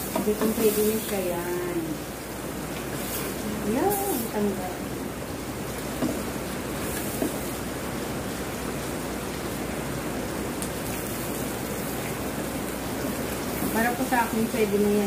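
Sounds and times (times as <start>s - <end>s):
fish sizzling on a hot plate: 0.0s - 15.0s.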